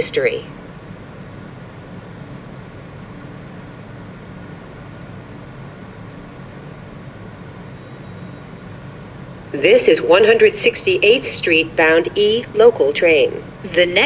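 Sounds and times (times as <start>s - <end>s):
subway car rumble and hum: 0.0s - 14.0s.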